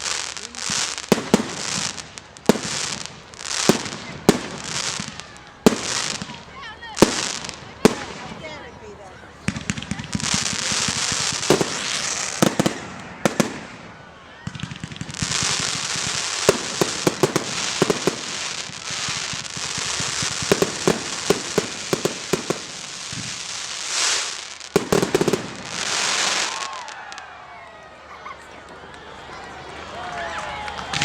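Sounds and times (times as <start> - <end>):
fireworks popping and crackling: 0.0 - 27.3, 29.9 - 31.0.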